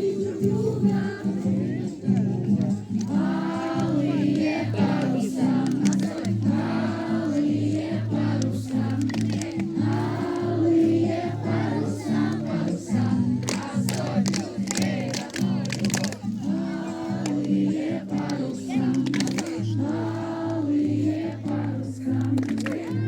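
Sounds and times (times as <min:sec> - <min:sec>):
group of voices singing: 0:00.0 - 0:23.0
instrumental music: 0:00.0 - 0:23.0.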